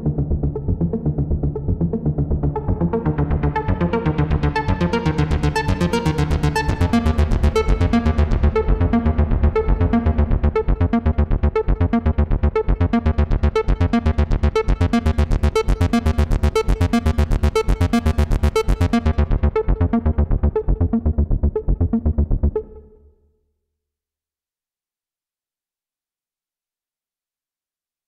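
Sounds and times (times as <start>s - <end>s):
synthesizer bass sequence: 0.0s - 23.1s.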